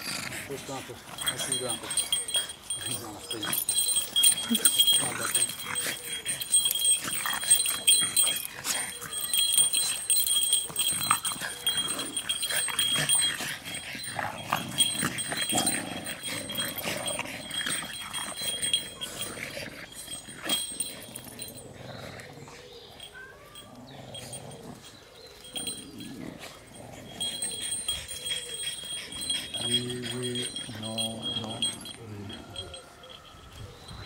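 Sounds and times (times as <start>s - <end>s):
dogs vocalizing: 0.0s - 34.0s.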